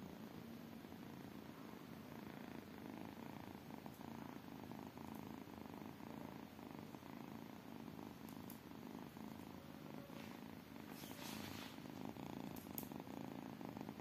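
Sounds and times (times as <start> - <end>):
kitten purring: 0.0 - 14.0.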